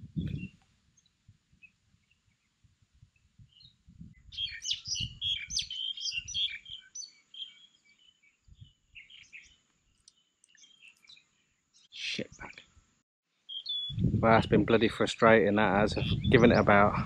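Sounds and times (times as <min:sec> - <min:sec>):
small birds chirping: 0:00.0 - 0:12.8, 0:13.4 - 0:14.6, 0:15.4 - 0:17.0.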